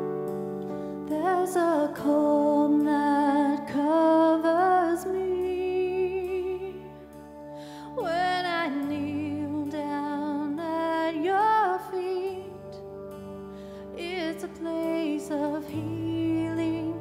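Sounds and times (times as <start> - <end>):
guitar: 0.0 - 17.0
keyboard chords: 0.0 - 17.0
woman singing: 1.1 - 6.9, 7.8 - 12.8, 13.9 - 17.0.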